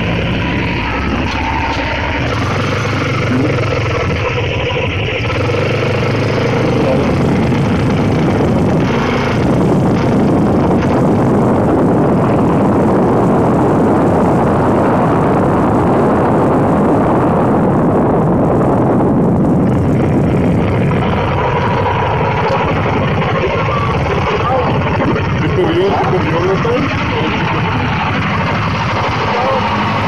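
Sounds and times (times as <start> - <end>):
scooter engine running: 0.0 - 30.0
wind rushing over microphone: 0.0 - 30.0.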